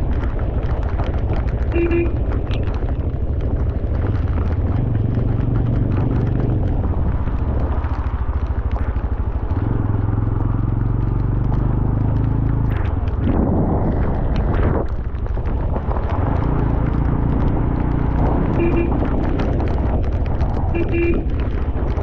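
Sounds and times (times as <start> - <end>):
road and wind noise: 0.0 - 22.0
vehicle engine running: 0.0 - 22.0.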